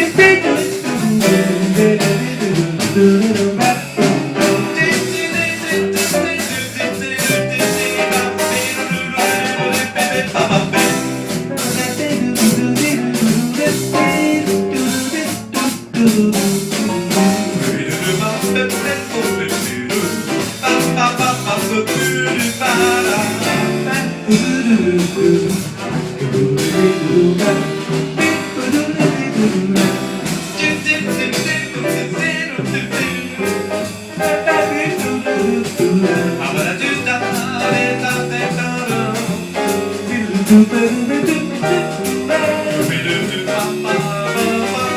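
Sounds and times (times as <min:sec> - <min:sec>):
drum kit keeping time: 0:00.0 - 0:44.9
small jazz band playing: 0:00.0 - 0:44.9.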